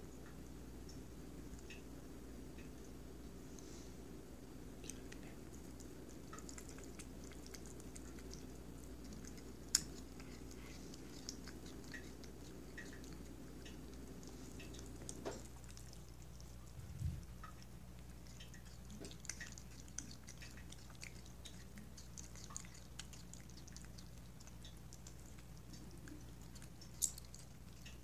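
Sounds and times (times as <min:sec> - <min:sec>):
steady low hum: 0:00.0 - 0:28.0
cat chewing: 0:02.6 - 0:28.0.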